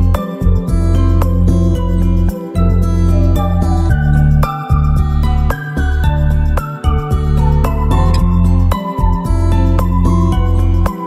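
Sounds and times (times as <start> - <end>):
pulsing bass: 0.0 - 10.9
gentle instrumental music: 0.0 - 11.0.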